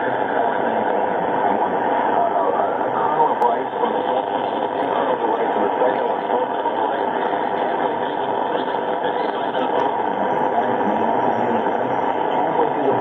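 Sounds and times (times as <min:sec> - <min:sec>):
faint radio programme audio: 0:00.0 - 0:13.0
radio static hiss: 0:00.0 - 0:13.0.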